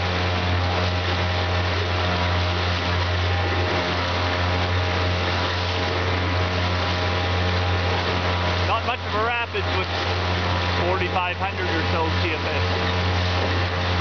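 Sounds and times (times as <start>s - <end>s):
outboard motor running: 0.0s - 14.0s
water splashing along hull: 0.0s - 14.0s.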